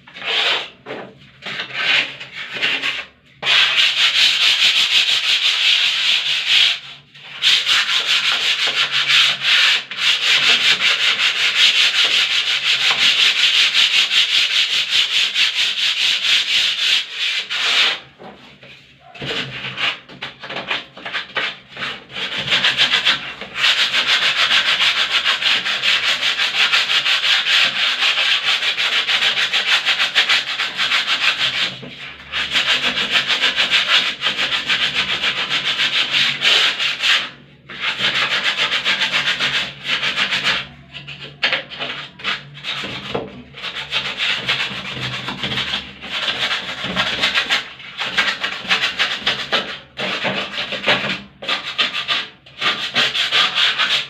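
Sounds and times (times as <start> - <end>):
sanding plaster wall: 0.1 - 54.0.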